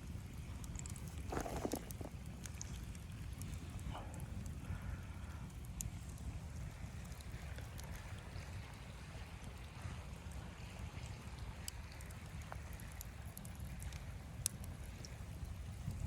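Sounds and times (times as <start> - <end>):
faint clicks and crackles: 0.4 - 8.8, 11.0 - 16.0.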